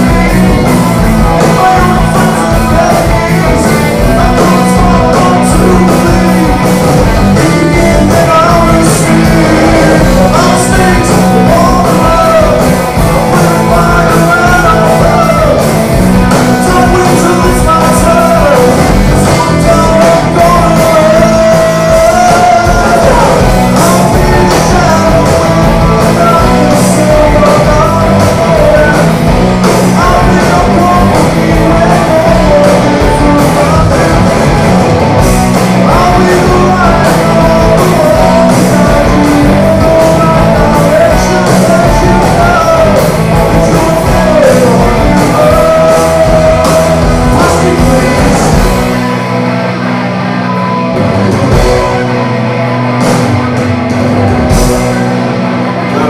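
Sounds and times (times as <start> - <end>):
man singing: 0.0 - 34.7, 35.4 - 49.2, 55.7 - 56.0
live rock band playing: 0.0 - 56.0.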